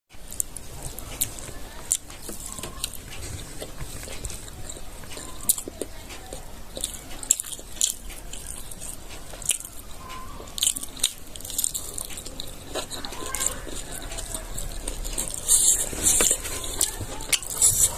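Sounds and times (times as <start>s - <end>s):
person chewing with mouth smacking: 0.2s - 17.9s.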